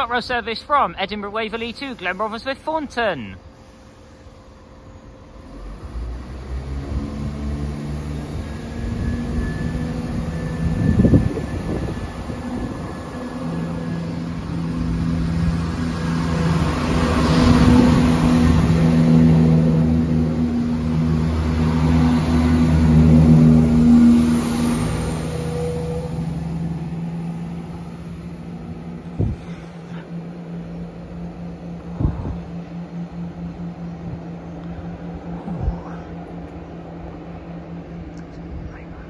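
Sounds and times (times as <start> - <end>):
train diesel engines under power: 0.0 - 39.0.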